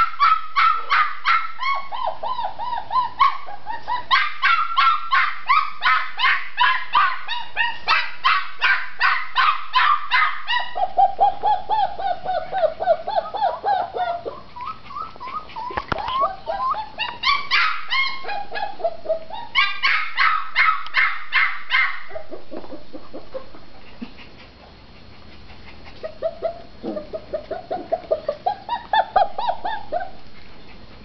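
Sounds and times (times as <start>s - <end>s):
puppy yapping: 0.0s - 23.5s, 25.9s - 30.2s.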